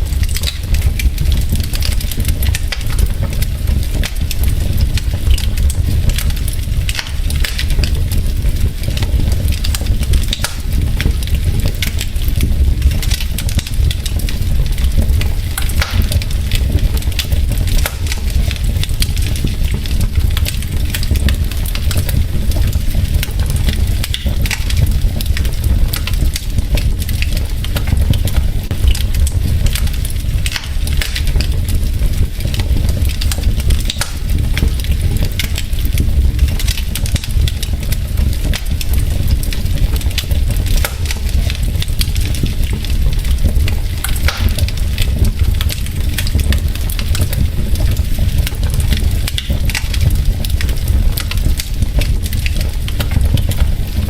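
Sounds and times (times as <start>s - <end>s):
logs crackling in a fire: 0.0s - 54.0s.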